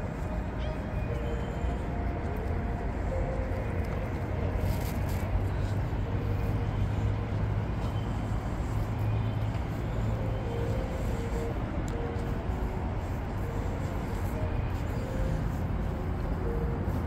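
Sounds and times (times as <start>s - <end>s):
low rumble of vehicle noise: 0.0s - 17.0s.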